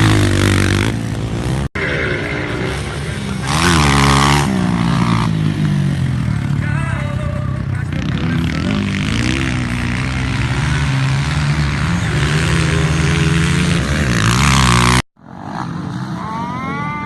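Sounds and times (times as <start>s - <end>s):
motocross bikes revving: 0.0s - 17.0s.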